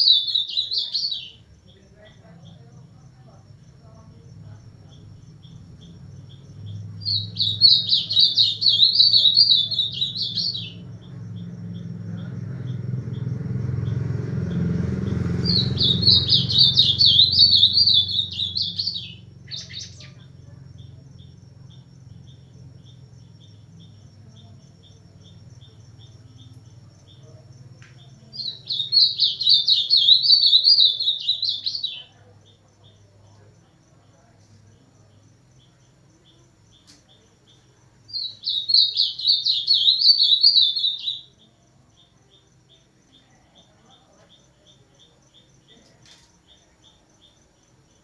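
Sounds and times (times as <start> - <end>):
bird singing warbled song: 0.0 - 48.0.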